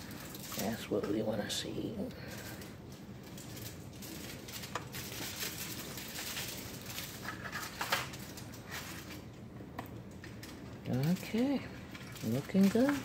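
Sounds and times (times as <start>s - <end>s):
pot bubbling at a simmer: 2.2s - 13.0s.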